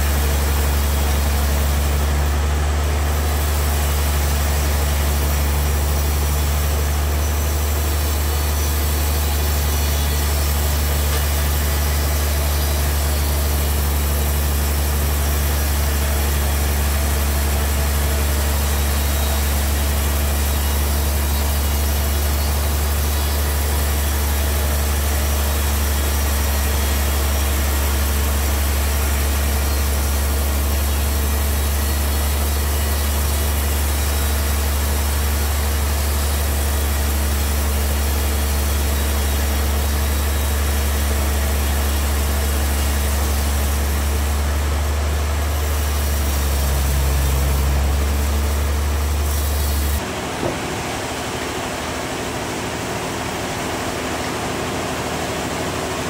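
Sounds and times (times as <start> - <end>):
band sawmill sawing log: 0.0 - 56.0.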